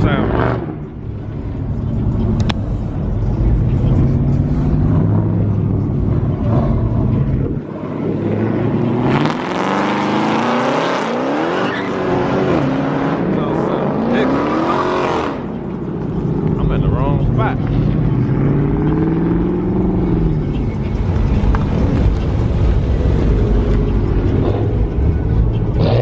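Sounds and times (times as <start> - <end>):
engines revving: 0.0 - 26.0.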